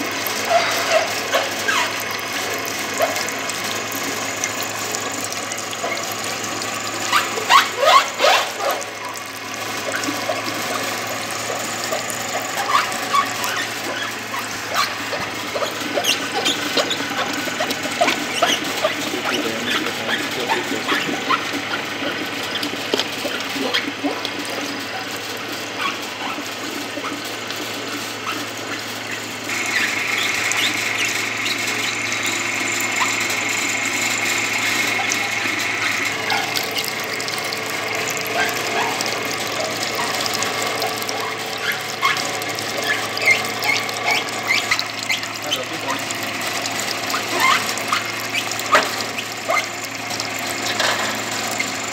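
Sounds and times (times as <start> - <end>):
motor hum: 0.0 - 51.9.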